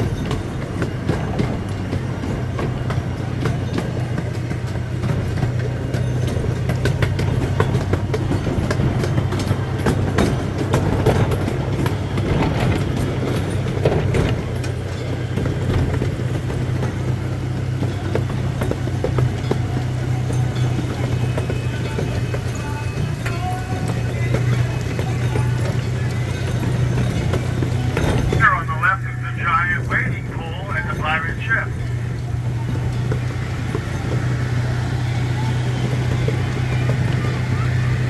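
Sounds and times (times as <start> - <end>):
small train humming: 0.0 - 38.0
train cars clicking and rattling: 0.0 - 38.0.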